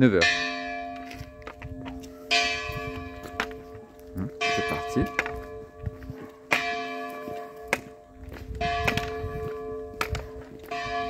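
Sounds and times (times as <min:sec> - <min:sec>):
church bell striking: 0:00.0 - 0:11.0.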